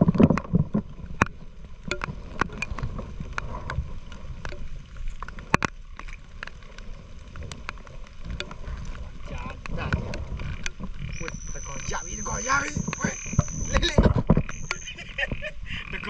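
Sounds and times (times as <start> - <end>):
handling and wind rumble: 0.0 - 11.3, 12.0 - 15.6.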